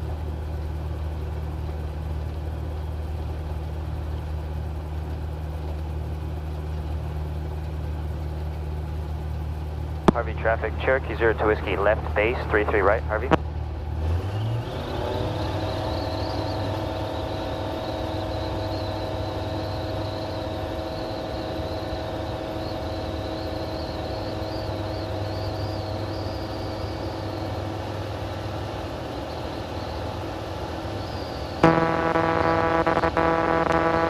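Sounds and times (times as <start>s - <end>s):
light aircraft engine drone: 0.0s - 34.0s.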